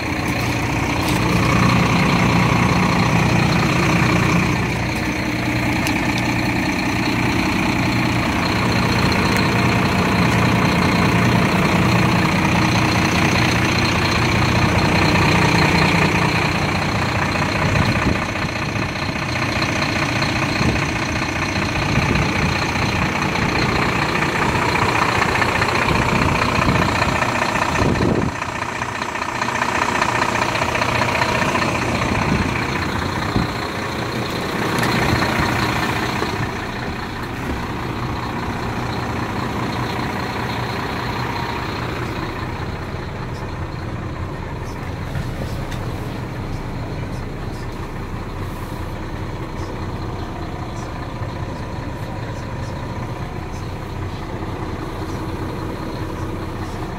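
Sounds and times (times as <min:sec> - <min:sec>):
truck diesel engine idling: 0:00.0 - 0:56.9.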